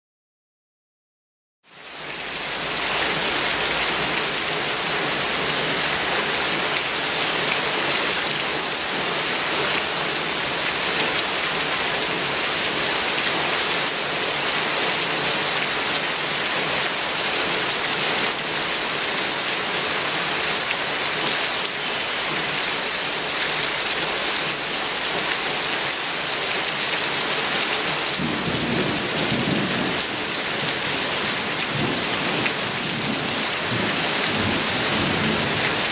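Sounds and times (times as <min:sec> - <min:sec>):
heavy rain on foliage: 0:01.6 - 0:35.9.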